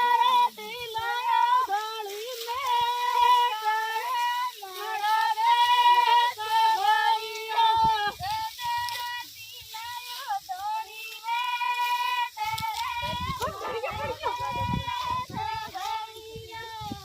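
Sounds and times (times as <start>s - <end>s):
women singing folk song: 0.0s - 17.0s.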